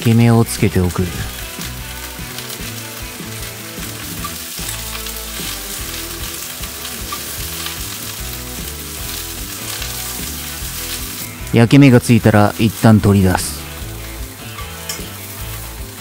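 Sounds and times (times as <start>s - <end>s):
onion sizzling in a skillet: 0.0s - 16.0s.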